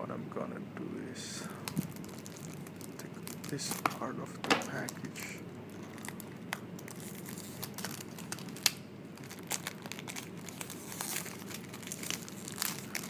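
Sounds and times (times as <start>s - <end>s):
packaging crinkling and rustling: 1.6s - 13.0s.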